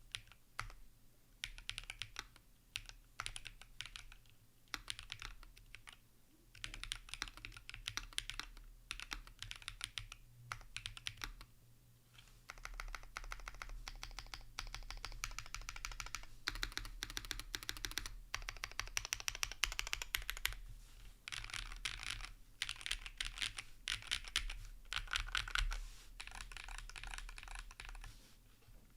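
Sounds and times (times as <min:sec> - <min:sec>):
mechanical keyboard typing: 0:00.1 - 0:00.8, 0:01.4 - 0:11.5, 0:12.5 - 0:20.6, 0:21.3 - 0:28.1.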